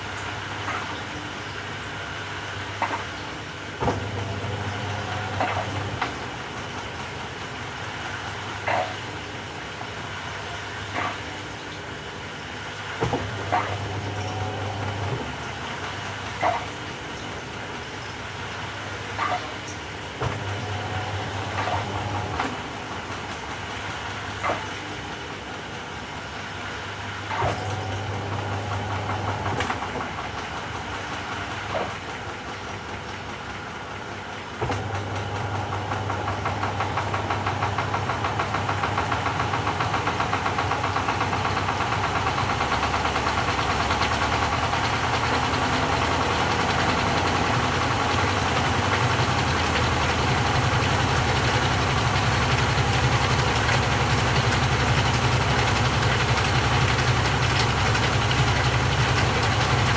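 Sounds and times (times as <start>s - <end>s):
washing machine drum spinning: 0.0s - 11.2s, 12.8s - 59.9s
washing machine low hum: 0.0s - 59.9s.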